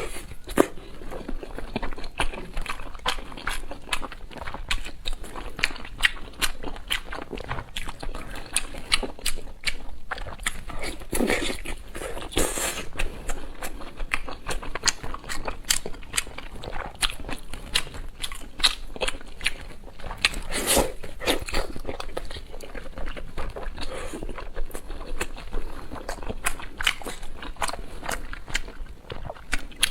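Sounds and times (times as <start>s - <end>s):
person crunching and chewing: 0.0s - 29.9s.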